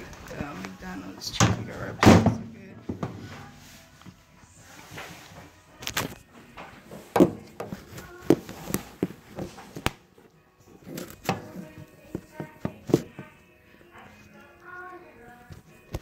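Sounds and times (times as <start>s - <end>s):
faint music: 0.0s - 16.0s.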